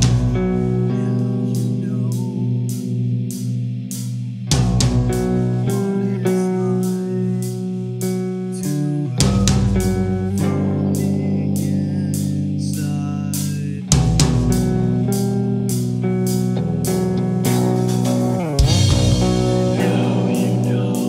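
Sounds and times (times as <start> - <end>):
bass guitar: 0.0 - 21.0
drums: 0.0 - 21.0
electric guitar notes: 0.0 - 21.0.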